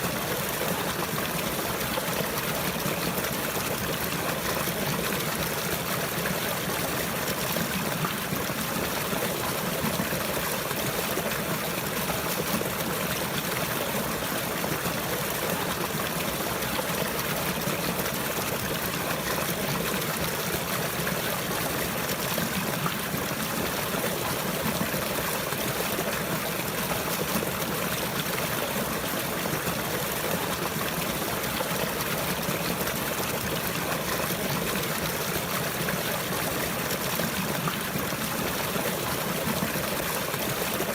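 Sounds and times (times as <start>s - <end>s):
water trickling and flowing: 0.0s - 40.9s.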